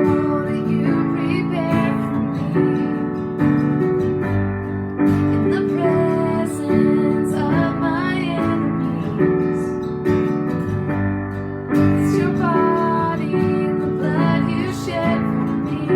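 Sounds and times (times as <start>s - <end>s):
strummed acoustic guitar: 0.0s - 15.9s.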